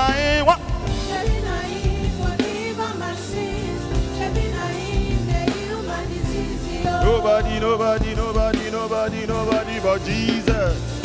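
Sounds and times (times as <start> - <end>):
bass and drums beat: 0.0 - 11.0
gospel singing: 0.0 - 11.0.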